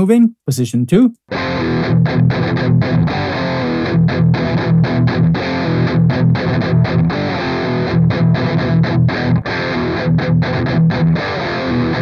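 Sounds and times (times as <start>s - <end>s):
distorted electric guitar riff: 1.3s - 12.0s.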